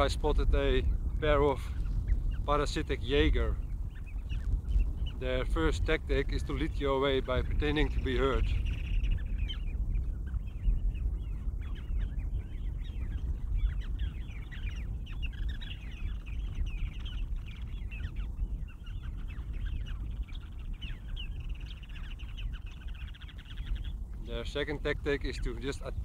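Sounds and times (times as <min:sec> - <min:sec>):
birds giving nasal calls: 0:00.0 - 0:26.0
steady low rumble: 0:00.0 - 0:26.0.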